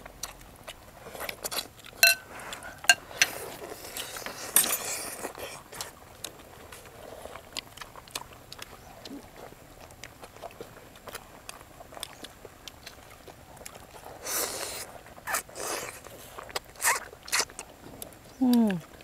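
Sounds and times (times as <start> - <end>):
mouth clicks and smacks: 0.0 - 19.0
person chewing: 0.0 - 19.0.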